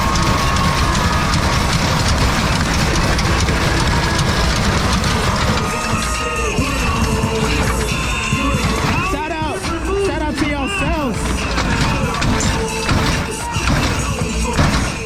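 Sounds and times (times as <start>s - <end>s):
deep engine rumble: 0.0s - 15.0s
rattling clatter: 0.0s - 15.0s.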